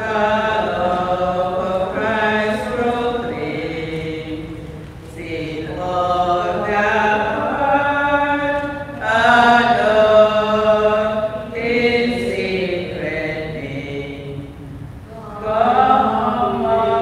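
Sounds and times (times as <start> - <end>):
people singing a hymn: 0.0 - 17.0.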